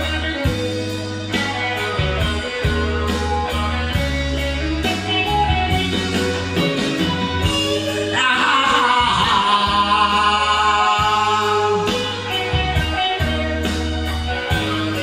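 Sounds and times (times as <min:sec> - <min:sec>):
rock ballad band playing: 0:00.0 - 0:15.0.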